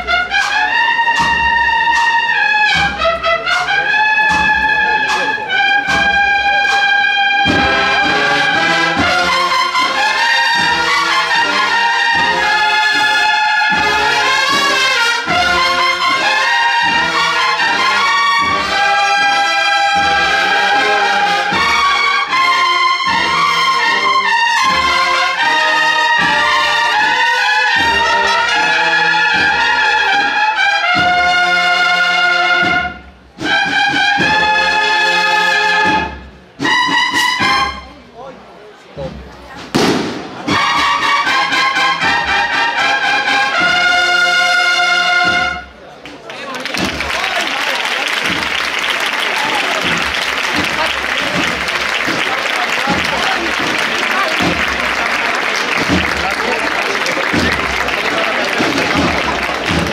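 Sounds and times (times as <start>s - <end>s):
cornets playing a march: 0.0s - 38.0s, 39.8s - 45.8s, 46.8s - 59.9s
steady drum beat: 0.0s - 38.1s, 39.0s - 46.0s, 46.7s - 59.9s.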